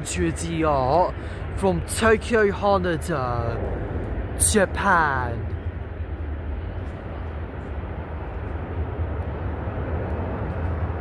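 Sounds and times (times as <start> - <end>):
jet engines low rumble: 0.0 - 11.0.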